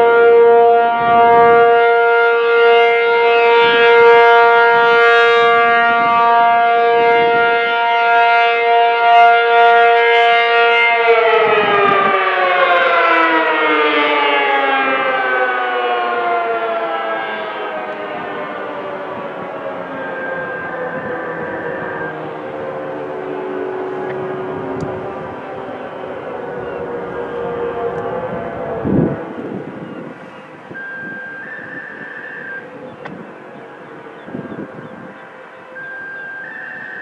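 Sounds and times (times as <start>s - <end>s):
outdoor warning siren: 0.0s - 37.0s.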